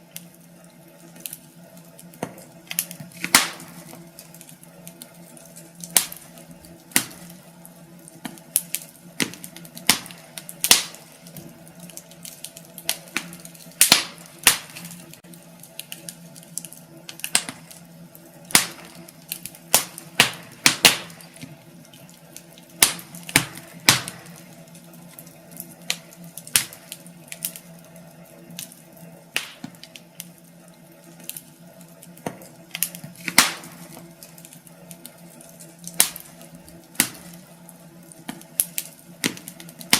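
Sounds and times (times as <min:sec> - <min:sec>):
sharp pops and snaps of fire: 0:00.0 - 0:39.9
wood fire crackling: 0:00.0 - 0:39.9.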